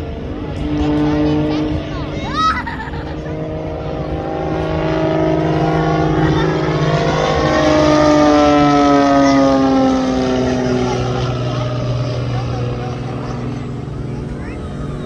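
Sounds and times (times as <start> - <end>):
airplane flying past: 0.0 - 15.0.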